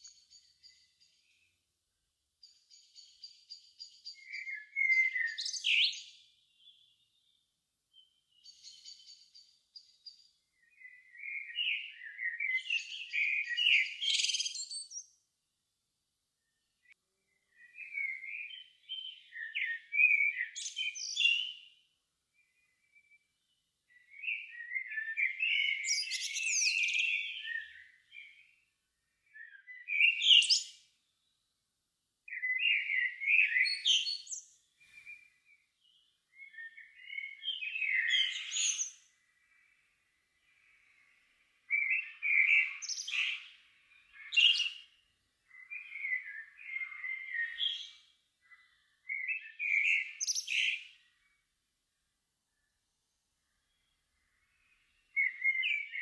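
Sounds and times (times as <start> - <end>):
songbird singing: 0.0 - 1.7, 2.3 - 15.3, 16.3 - 31.6, 32.2 - 56.0.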